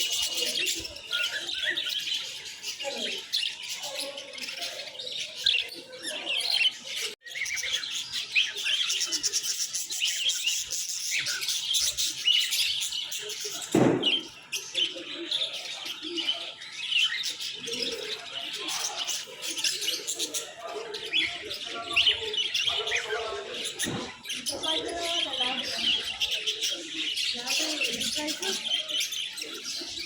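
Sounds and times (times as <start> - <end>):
cage birds twittering: 0.0 - 30.0.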